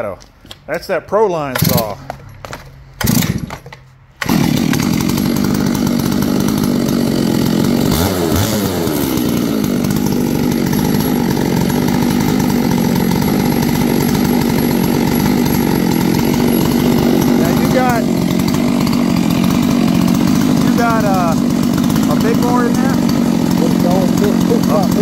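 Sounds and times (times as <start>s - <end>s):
chainsaw running hard: 1.5s - 25.0s.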